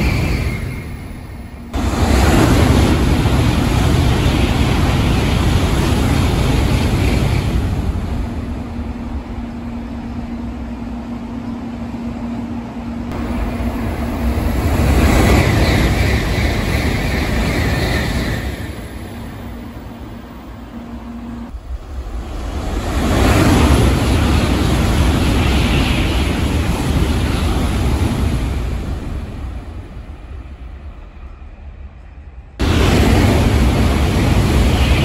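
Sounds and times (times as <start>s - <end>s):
high-speed train rushing past: 0.0s - 35.0s
steady train hum: 0.0s - 35.0s.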